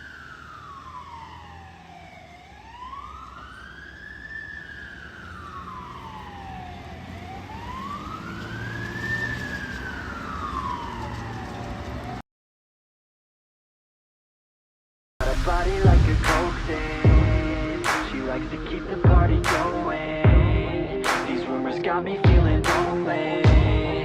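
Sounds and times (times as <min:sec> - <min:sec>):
fire engine siren wailing: 0:00.0 - 0:12.2, 0:15.3 - 0:24.0
truck engine rumble: 0:00.0 - 0:12.2, 0:15.2 - 0:24.0.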